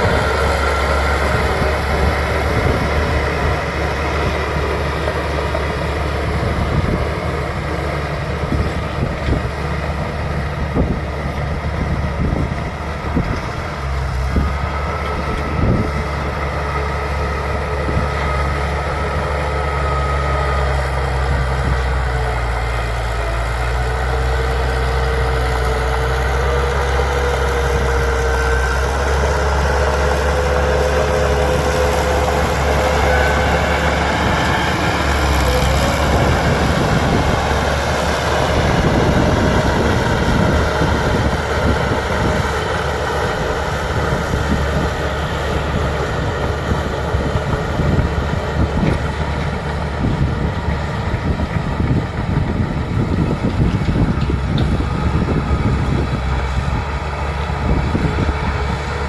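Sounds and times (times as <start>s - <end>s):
bulldozer diesel engine droning: 0.0s - 59.0s.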